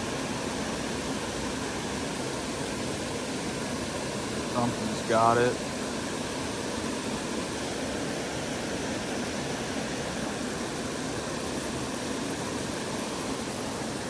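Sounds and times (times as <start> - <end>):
flowing creek water: 0.0 - 14.0.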